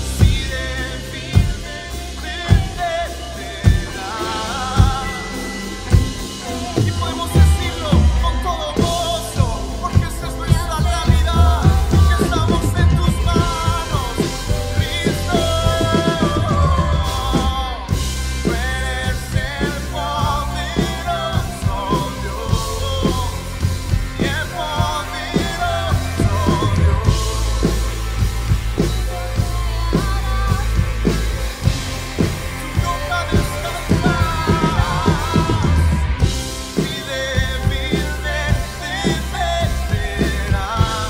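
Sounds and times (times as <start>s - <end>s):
bass line: 0.0s - 41.0s
drum kit with cymbals: 0.0s - 41.0s
electric guitar: 0.0s - 41.0s
lead singer singing: 0.0s - 41.0s.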